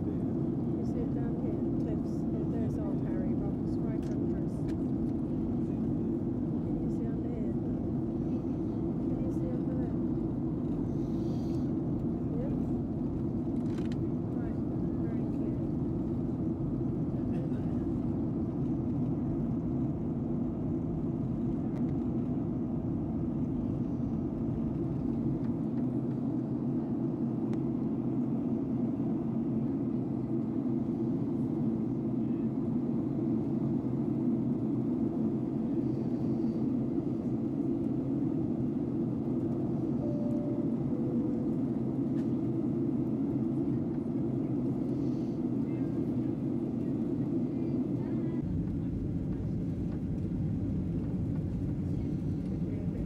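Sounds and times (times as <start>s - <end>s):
airplane cabin engine rumble: 0.0s - 53.0s.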